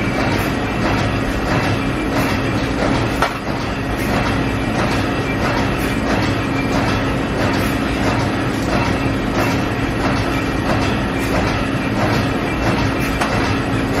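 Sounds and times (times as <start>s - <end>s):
factory machinery din: 0.0s - 14.0s.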